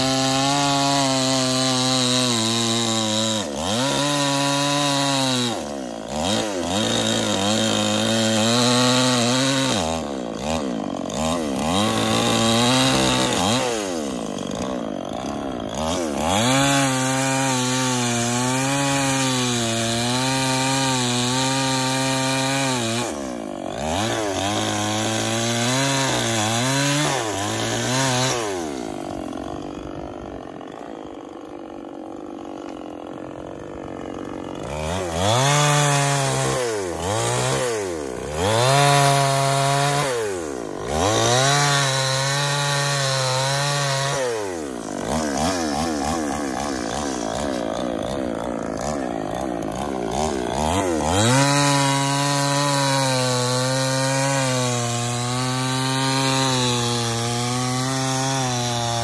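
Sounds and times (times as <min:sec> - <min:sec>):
chainsaw cutting branches: 0:00.0 - 0:59.0.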